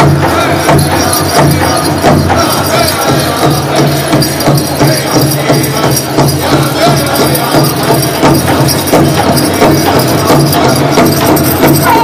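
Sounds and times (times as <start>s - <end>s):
large hand drum beating: 0.0s - 12.0s
sleigh bells jingling: 0.0s - 12.0s.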